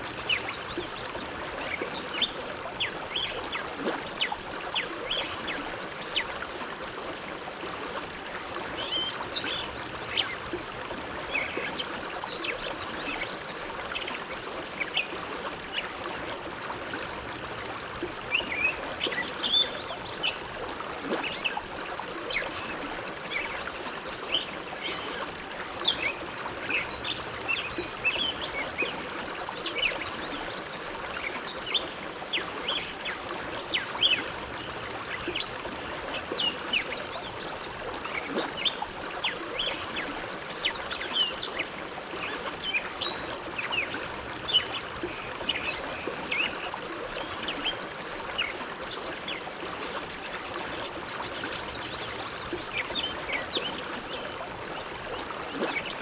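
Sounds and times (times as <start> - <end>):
water splashes and gurgles: 0.0 - 56.0.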